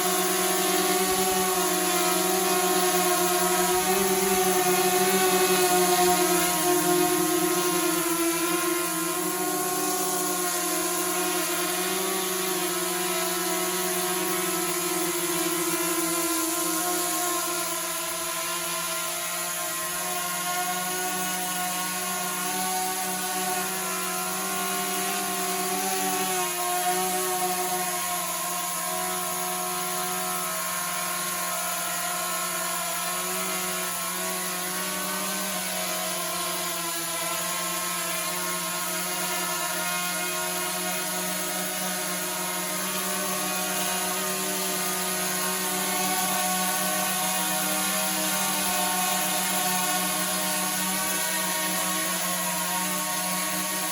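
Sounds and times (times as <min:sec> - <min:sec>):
drone buzzing whine: 0:00.0 - 0:53.9.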